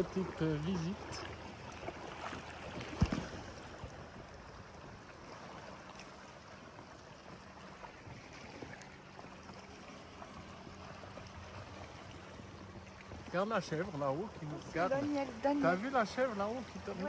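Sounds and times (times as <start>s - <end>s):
outboard motor running: 0.0s - 17.0s
water rushing along hull: 0.0s - 17.0s.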